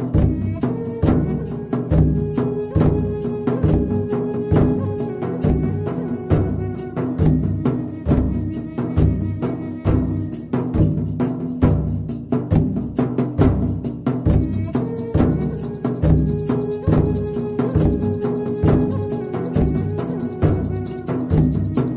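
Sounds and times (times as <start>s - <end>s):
instrumental music with drum beat: 0.0s - 21.9s.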